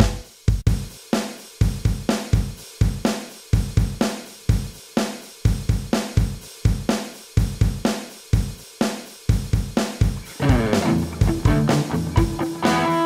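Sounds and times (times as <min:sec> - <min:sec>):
drum machine beat: 0:00.0 - 0:13.0.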